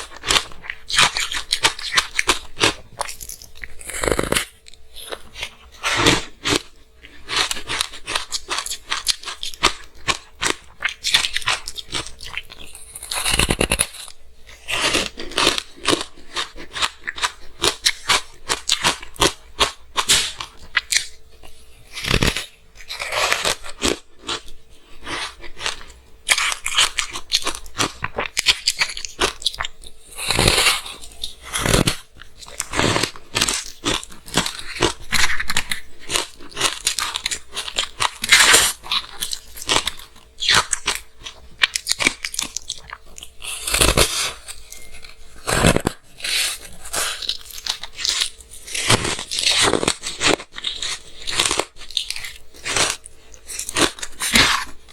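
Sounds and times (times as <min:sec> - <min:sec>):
crunching and chewing ice: 0:00.0 - 0:54.9.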